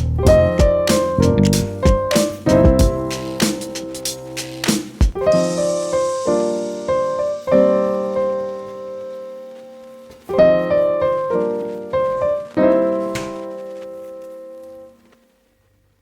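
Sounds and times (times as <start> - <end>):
piano chords ringing: 0.0 - 15.1.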